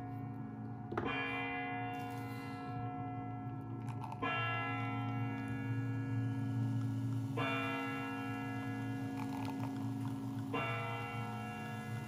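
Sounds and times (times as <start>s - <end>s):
deep clock bell striking: 0.0s - 12.0s
low steady hum: 0.0s - 12.0s.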